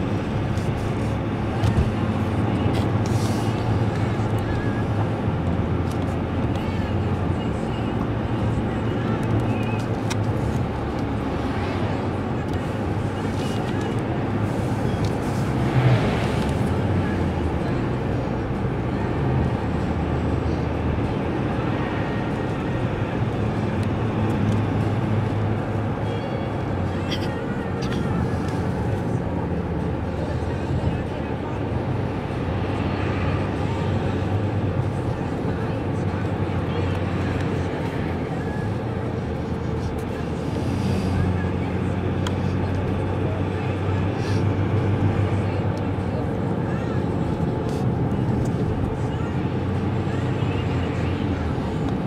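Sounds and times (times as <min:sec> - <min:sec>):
car engine and road drone: 0:00.0 - 0:52.0.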